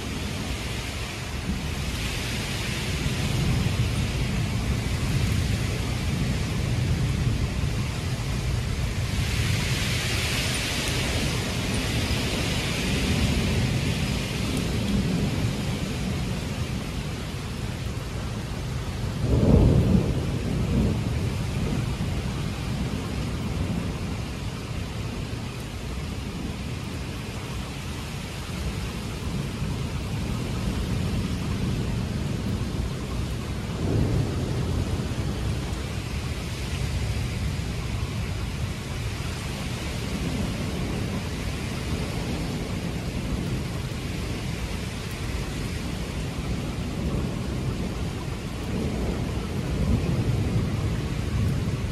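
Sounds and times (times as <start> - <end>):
low thunder rumble: 0.0 - 51.9
wind and rain rushing: 0.0 - 51.9.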